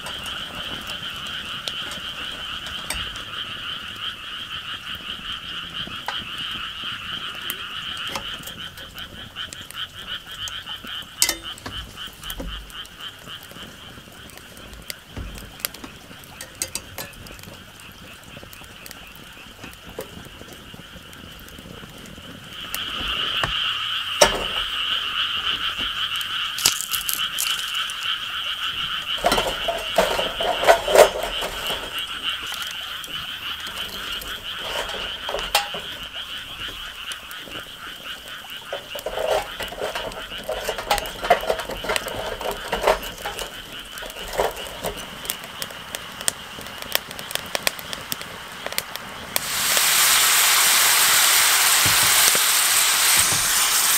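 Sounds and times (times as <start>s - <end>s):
sharp clicks and crackles: 0.0s - 4.1s, 4.9s - 49.8s, 51.2s - 53.9s
chorus of frogs calling: 0.0s - 53.9s.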